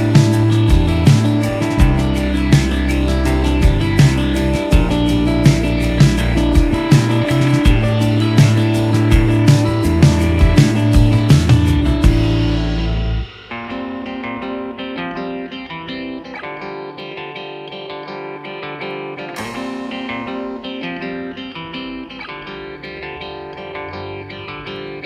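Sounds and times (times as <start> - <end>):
plucked guitar melody: 0.0 - 25.0.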